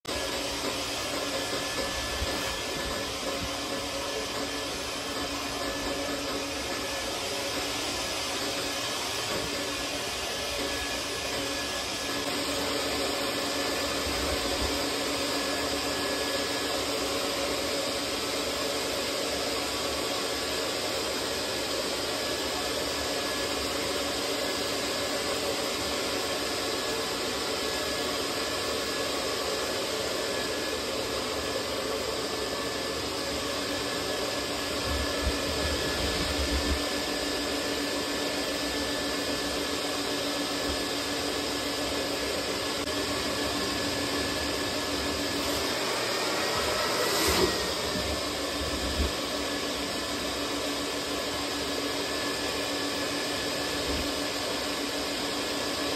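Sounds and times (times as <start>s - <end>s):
vacuum running: 0.0s - 55.9s.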